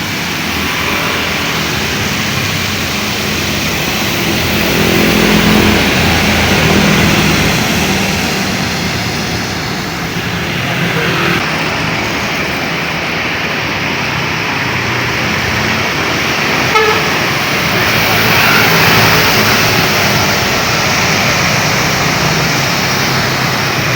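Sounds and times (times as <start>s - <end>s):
bus engine humming: 0.0s - 23.9s
heavy rain hissing: 0.0s - 23.9s.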